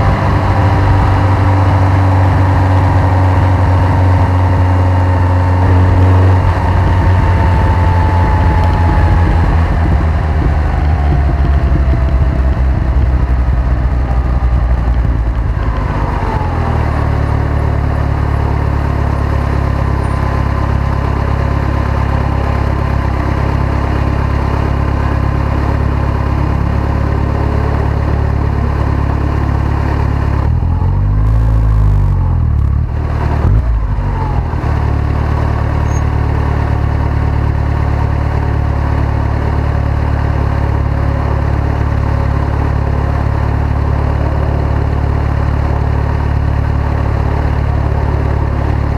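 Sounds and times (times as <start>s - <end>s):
car engine idling: 0.0s - 48.9s
turbo whine: 0.0s - 48.9s.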